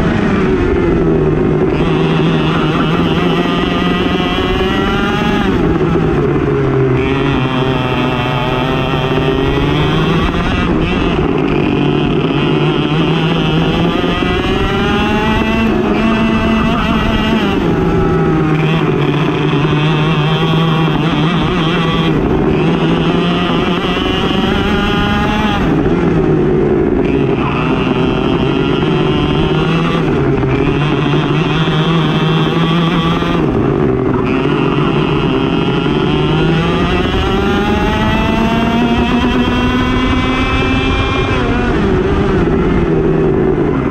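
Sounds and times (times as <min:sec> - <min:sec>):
racing kart engine revving: 0:00.0 - 0:43.9.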